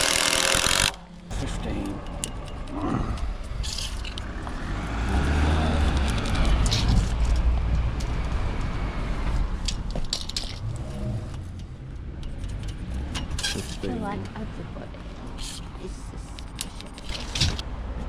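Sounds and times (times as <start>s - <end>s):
road vehicle passing: 1.0s - 18.0s.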